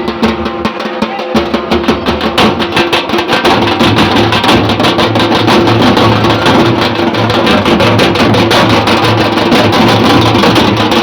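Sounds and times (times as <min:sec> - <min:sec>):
drums beaten in fast rhythm: 0:00.0 - 0:11.0.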